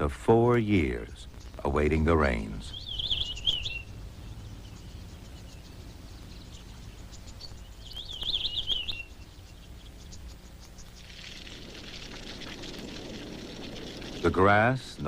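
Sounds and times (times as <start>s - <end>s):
faint scattered ticks: 0.0s - 15.0s
low hum of wild ambience: 0.0s - 15.0s
bird warbling call: 0.6s - 15.0s.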